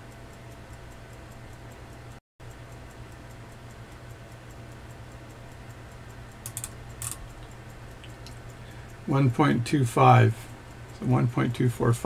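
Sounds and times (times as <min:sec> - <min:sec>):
low steady hum: 0:00.0 - 0:12.0
micrometer ticking and clicks: 0:00.0 - 0:12.0.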